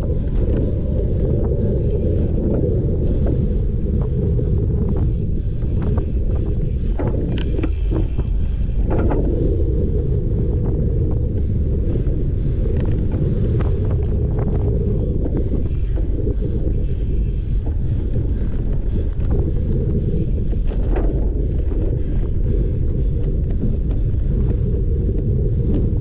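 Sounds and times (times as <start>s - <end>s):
bike clicks and rattles: 0.0s - 26.0s
wind buffeting microphone: 0.0s - 26.0s.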